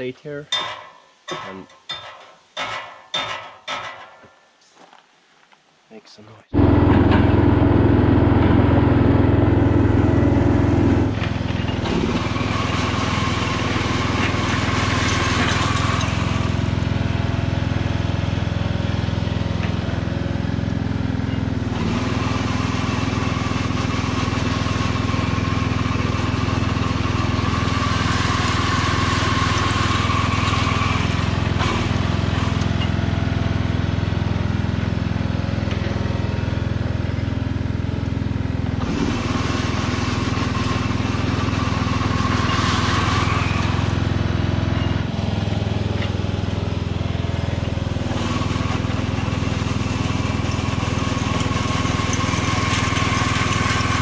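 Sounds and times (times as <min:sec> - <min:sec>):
ride-on mower engine running: 0:06.5 - 0:54.0.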